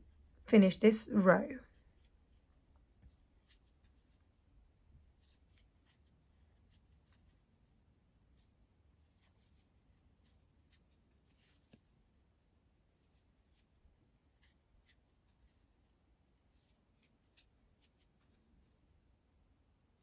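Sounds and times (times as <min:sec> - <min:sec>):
yarn and crochet hook rustling: 0:00.0 - 0:19.0.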